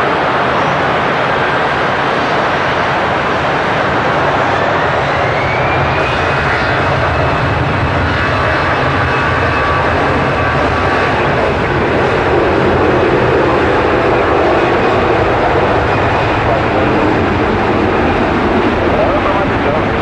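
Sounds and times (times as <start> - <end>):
jet engines at take-off power: 0.0 - 20.0.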